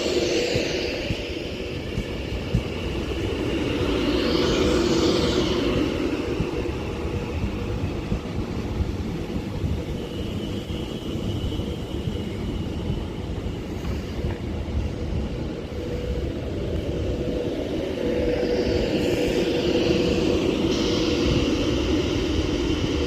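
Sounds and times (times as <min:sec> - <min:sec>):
faint high whine: 0:00.0 - 0:23.0
train wheels rumbling on rail: 0:00.0 - 0:23.0.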